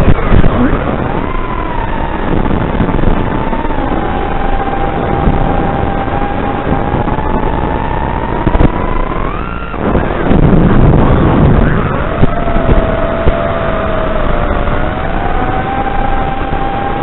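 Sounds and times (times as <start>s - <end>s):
drone motors whining: 0.0s - 17.0s
heavy wind rush: 0.0s - 17.0s.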